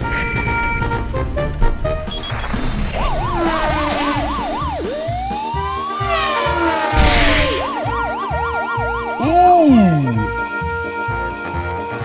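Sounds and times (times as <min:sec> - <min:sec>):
emergency siren yelp and wail: 0:00.0 - 0:10.6
background music with steady beat: 0:00.0 - 0:12.0.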